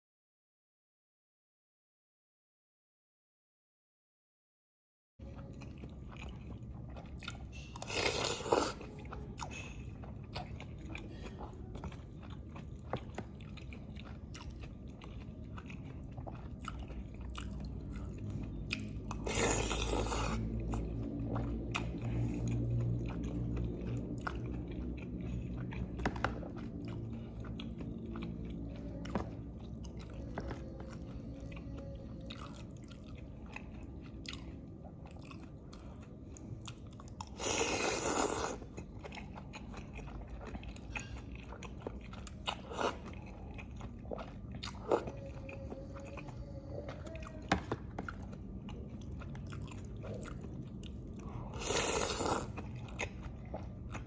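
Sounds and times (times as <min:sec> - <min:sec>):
close chewing with wet clicks: 0:05.2 - 0:54.0.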